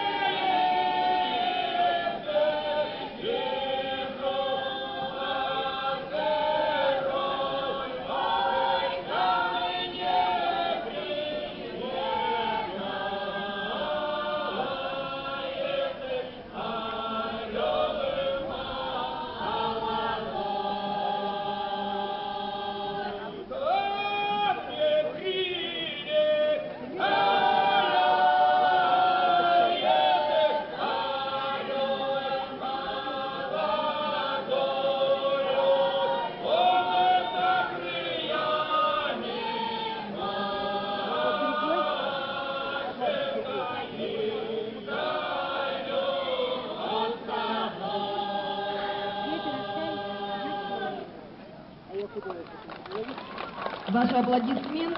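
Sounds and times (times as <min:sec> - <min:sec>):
group singing a cappella: 0:00.0 - 0:51.2.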